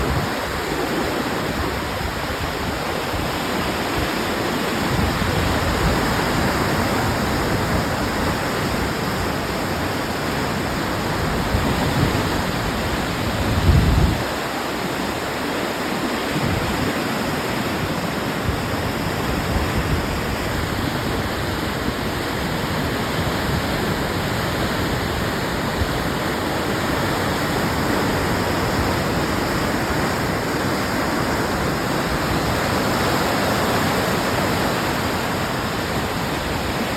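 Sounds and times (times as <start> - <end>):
floodwater rushing through channel: 0.0 - 36.9
wind buffeting microphone: 0.0 - 36.9.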